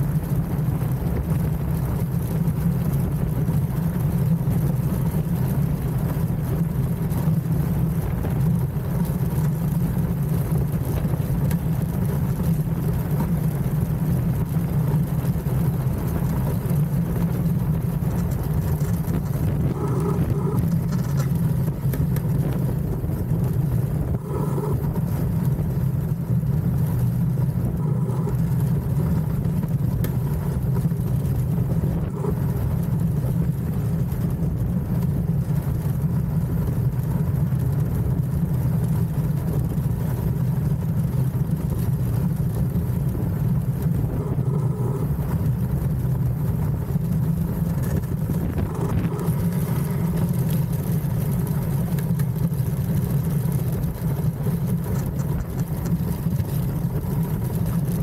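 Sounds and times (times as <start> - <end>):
runners rumbling on ice: 0.0 - 58.0.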